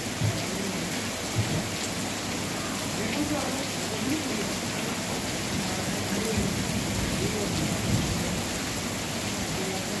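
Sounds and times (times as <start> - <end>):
heavy rain on concrete: 0.0 - 10.0.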